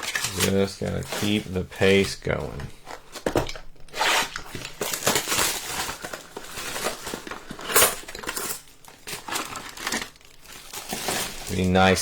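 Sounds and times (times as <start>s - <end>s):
wrappers crinkling and tearing: 0.0s - 12.0s.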